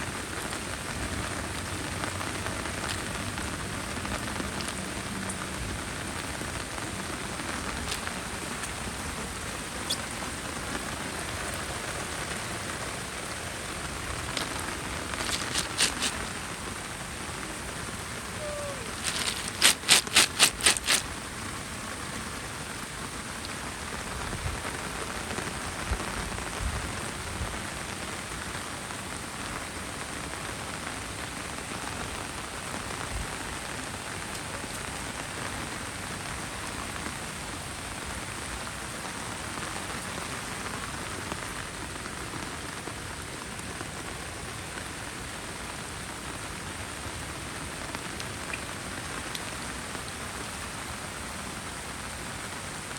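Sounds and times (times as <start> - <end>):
heavy rain hissing: 0.0 - 52.9.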